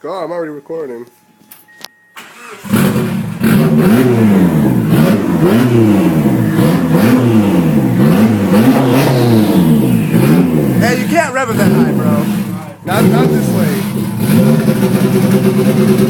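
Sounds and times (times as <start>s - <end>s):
car engine starting and revving: 2.2s - 16.0s.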